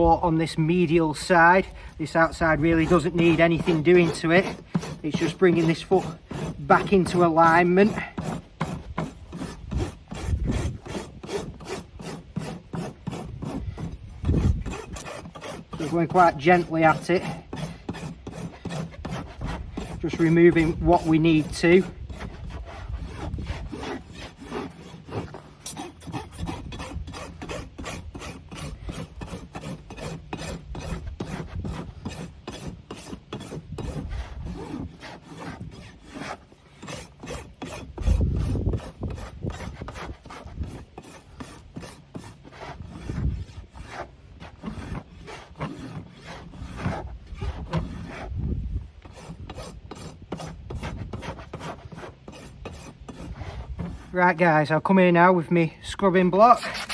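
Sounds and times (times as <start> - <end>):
hoof rasp scraping: 0.0 - 56.9.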